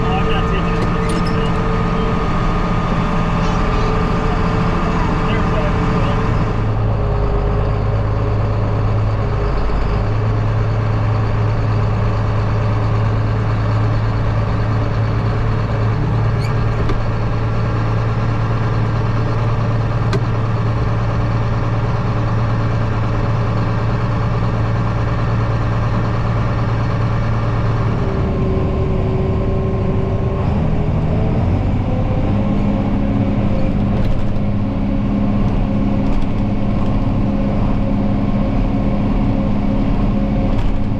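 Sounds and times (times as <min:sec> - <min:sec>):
farm vehicle engine humming: 0:00.0 - 0:40.9.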